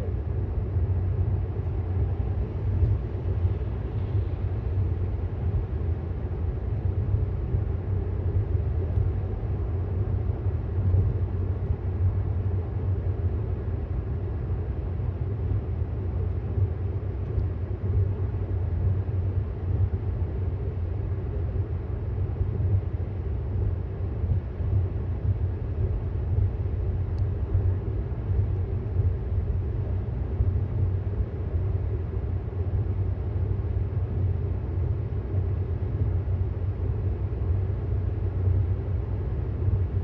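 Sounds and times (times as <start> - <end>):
road and tyre rumble: 0.0 - 40.0.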